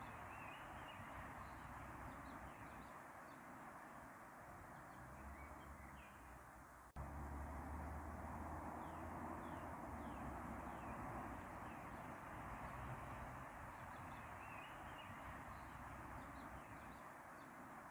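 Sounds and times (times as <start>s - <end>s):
outdoor background hiss: 0.0s - 17.9s.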